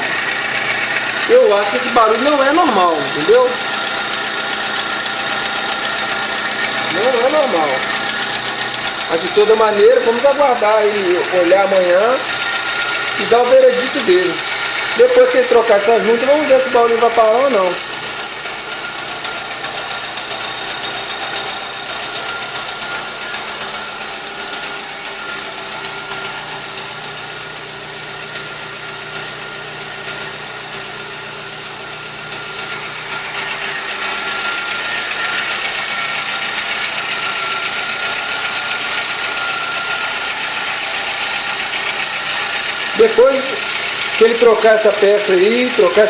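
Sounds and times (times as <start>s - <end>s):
rapid exhaust ticking: 0.0s - 39.3s, 40.0s - 46.0s
car engine idling: 0.0s - 46.0s.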